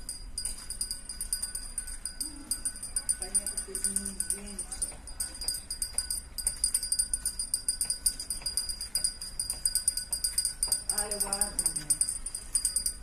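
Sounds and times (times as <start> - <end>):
jingle bells shaken: 0.0 - 13.0.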